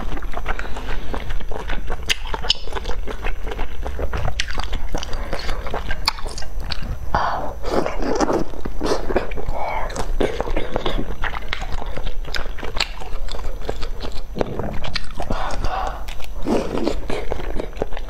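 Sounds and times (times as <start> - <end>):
chewing with wet mouth sounds: 0.0 - 18.0.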